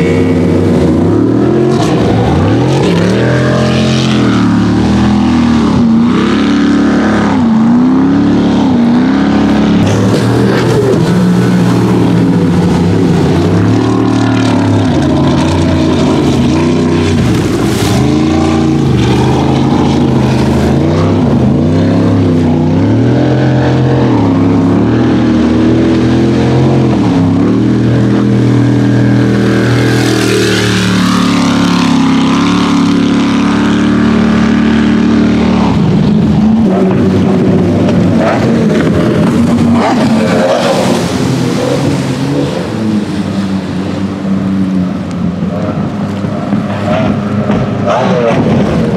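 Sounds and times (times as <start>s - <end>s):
powerboat engine at high revs: 0.0s - 48.9s.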